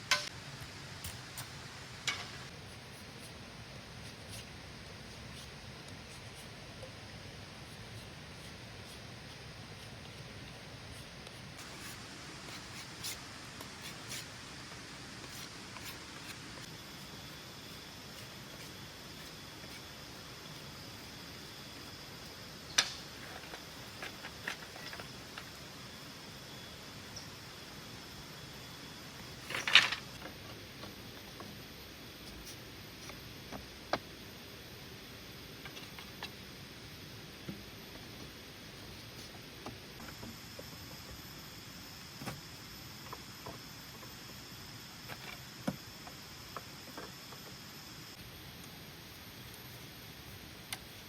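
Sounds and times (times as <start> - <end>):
forest background: 0.0 - 51.0
steady hiss: 0.0 - 51.0.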